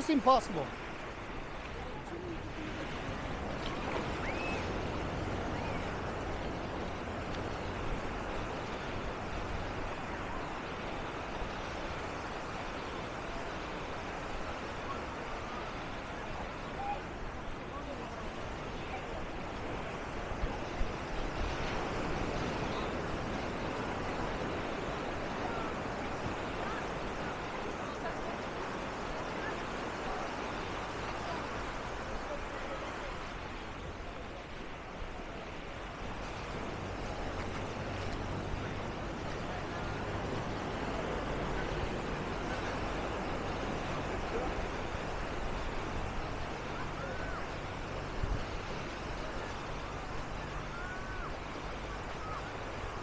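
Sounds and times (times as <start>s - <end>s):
faint distant voices: 0.0s - 53.0s
surf on a sandy beach: 0.0s - 53.0s
wind: 0.0s - 53.0s.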